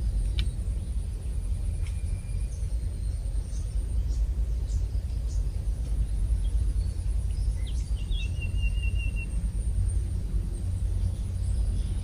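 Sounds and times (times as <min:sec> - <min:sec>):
faint bird chirps: 0:00.0 - 0:12.0
steady low rumble: 0:00.0 - 0:12.0.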